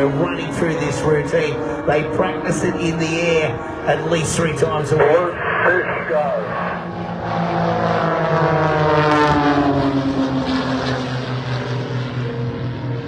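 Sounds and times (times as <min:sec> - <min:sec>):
propeller planes flying past: 0:00.0 - 0:13.0.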